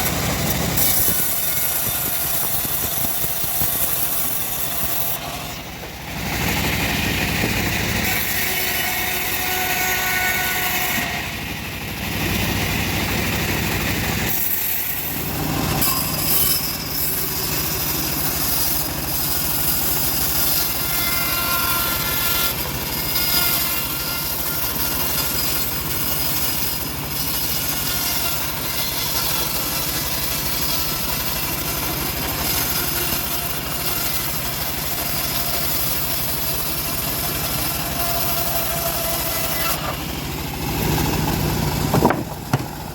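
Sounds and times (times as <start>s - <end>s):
bandsaw mill sawing log: 0.0s - 42.9s.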